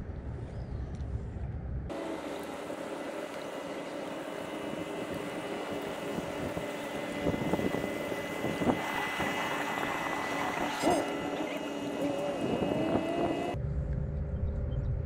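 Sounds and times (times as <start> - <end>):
motorboat engine running: 1.9 - 15.0.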